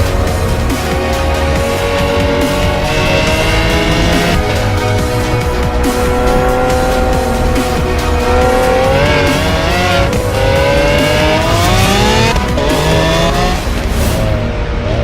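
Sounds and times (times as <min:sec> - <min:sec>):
background music: 0:00.0 - 0:15.0
car engine revving hard: 0:00.0 - 0:15.0.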